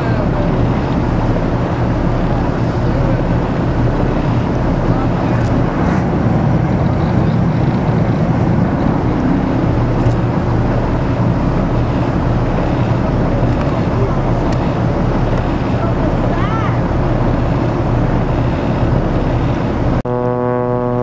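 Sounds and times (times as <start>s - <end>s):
wind and water hiss: 0.0s - 20.0s
boat engine rumbling: 0.0s - 21.0s.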